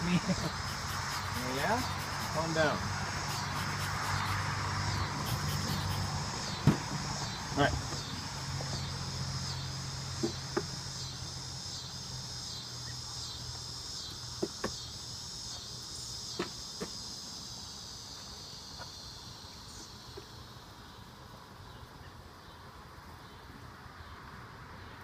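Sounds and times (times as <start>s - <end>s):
honeybees humming: 0.0s - 22.0s
crickets chirping: 0.0s - 25.0s.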